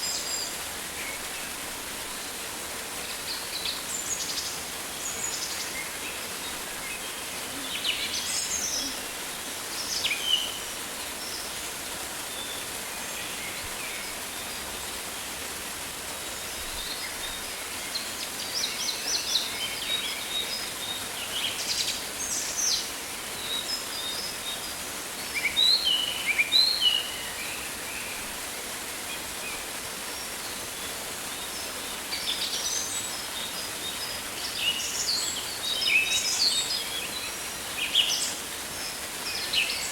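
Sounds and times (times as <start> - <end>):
rainforest ambience hiss: 0.0 - 39.9.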